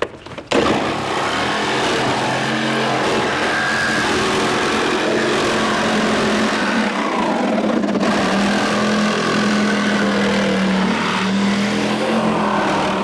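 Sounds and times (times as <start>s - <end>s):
chainsaw cutting sheet metal: 0.5s - 13.0s
chainsaw engine at full revs: 0.5s - 13.0s.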